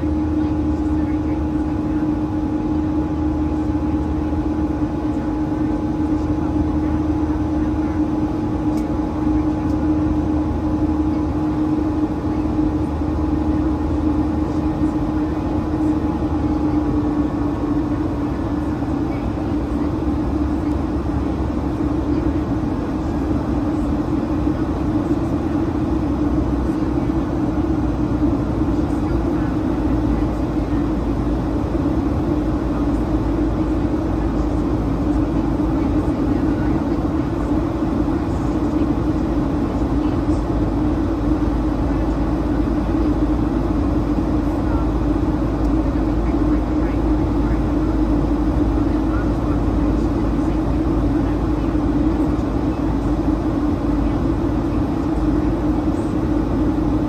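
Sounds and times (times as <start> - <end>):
jet engines droning: 0.0 - 57.0
low hum: 0.0 - 57.0.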